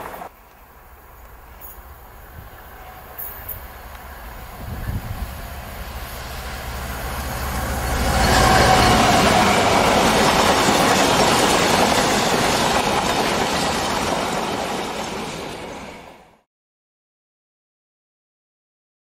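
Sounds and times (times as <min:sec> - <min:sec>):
diesel locomotive engine droning: 0:00.0 - 0:16.4
train wheels rushing on rail: 0:00.0 - 0:16.5.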